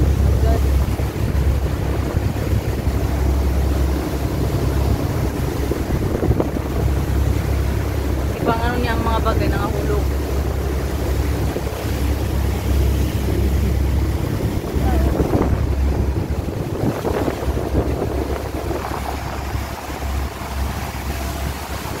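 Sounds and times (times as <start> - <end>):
rushing water from boat wake: 0.0 - 22.0
wind buffeting microphone: 0.0 - 22.0.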